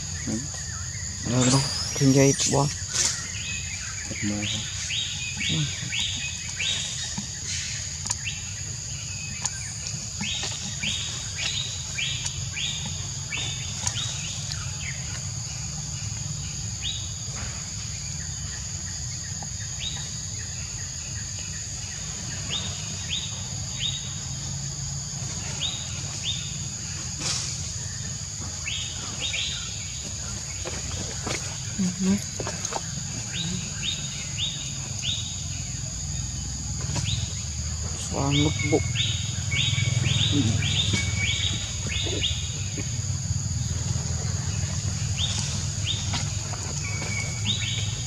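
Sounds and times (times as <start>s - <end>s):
bird chirping: 0.0s - 24.7s, 25.3s - 48.0s
high insect drone: 0.0s - 48.0s.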